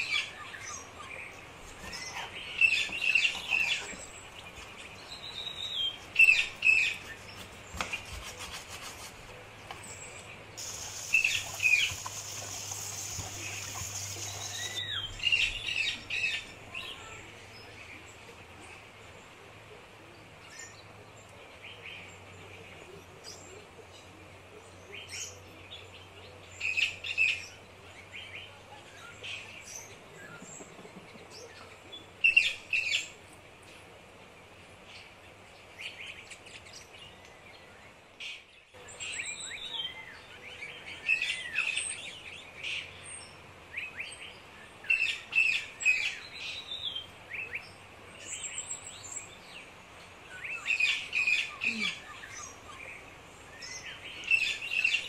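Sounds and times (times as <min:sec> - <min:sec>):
small birds chirping: 0:00.0 - 0:19.4, 0:20.2 - 0:55.0.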